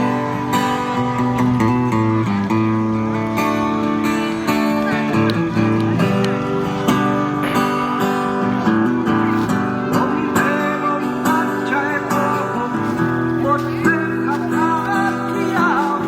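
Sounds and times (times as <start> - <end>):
strummed acoustic guitar music: 0.0 - 16.0.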